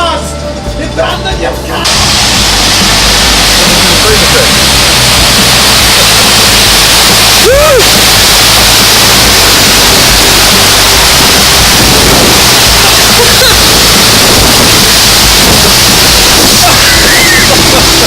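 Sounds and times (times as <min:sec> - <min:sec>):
rushing water: 0:01.8 - 0:18.0.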